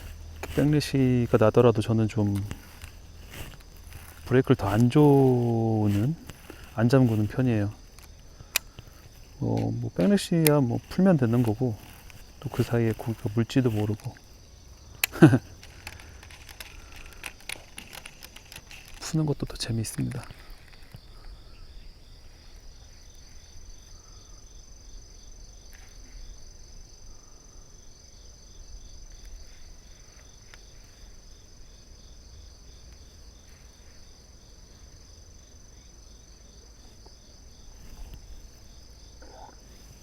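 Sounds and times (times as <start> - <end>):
crickets chirring: 0.0 - 40.0.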